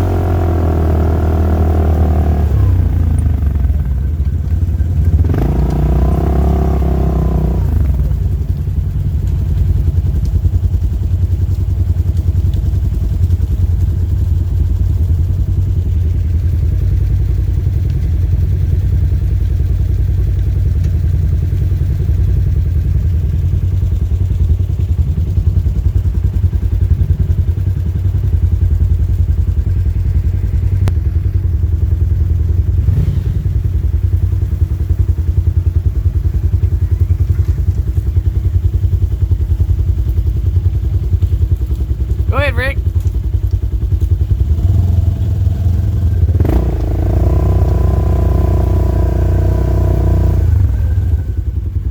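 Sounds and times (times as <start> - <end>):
off-road vehicle engine droning: 0.0 - 51.9.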